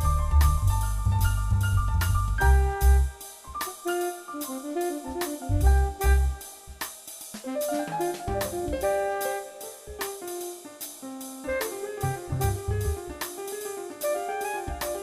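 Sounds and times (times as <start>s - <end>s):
jazz music: 0.0s - 15.0s.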